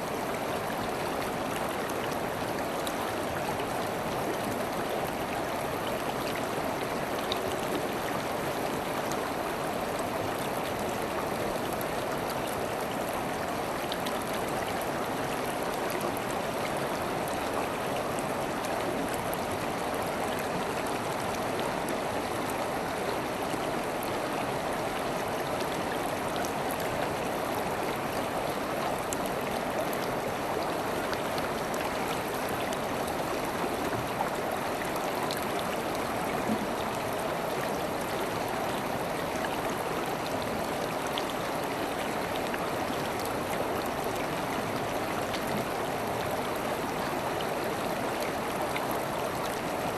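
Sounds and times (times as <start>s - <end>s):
river water flowing: 0.0s - 49.9s.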